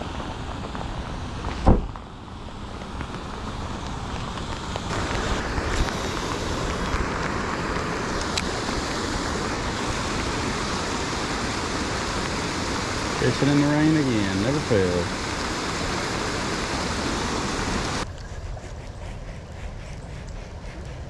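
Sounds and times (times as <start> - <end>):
rain hissing: 0.0 - 18.1.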